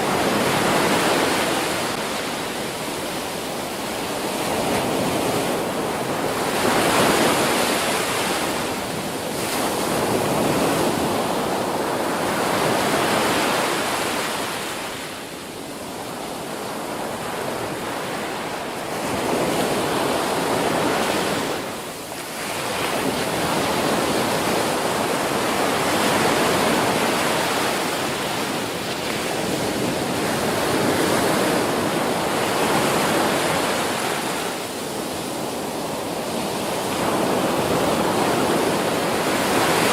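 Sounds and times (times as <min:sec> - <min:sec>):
ocean waves breaking on a beach: 0:00.0 - 0:39.9.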